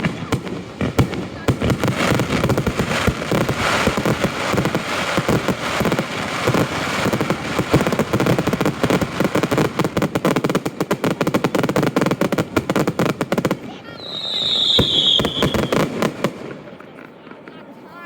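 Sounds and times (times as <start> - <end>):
fireworks bangs and crackling: 0.0 - 17.8.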